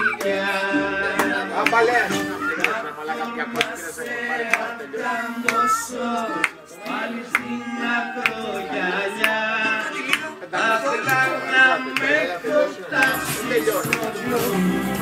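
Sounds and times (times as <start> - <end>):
dance music with singing: 0.0 - 15.0.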